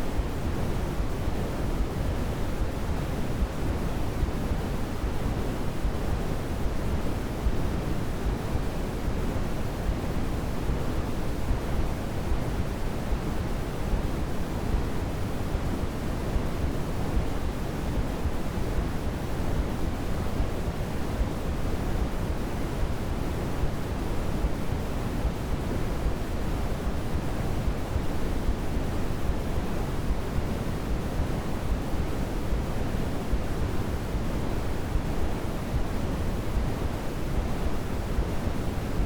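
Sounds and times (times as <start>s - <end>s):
low white noise rush: 0.0s - 39.0s.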